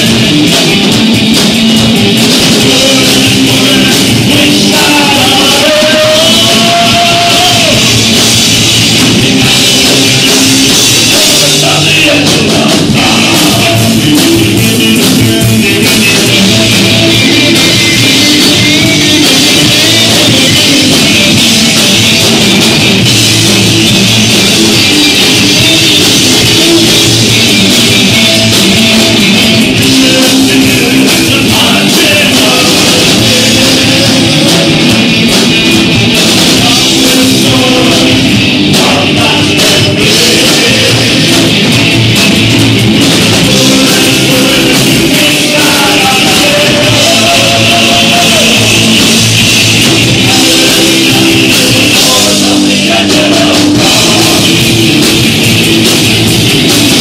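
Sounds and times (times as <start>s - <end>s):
drum kit: 0.0s - 57.0s
electric guitar: 0.0s - 57.0s
live rock band playing: 0.0s - 57.0s.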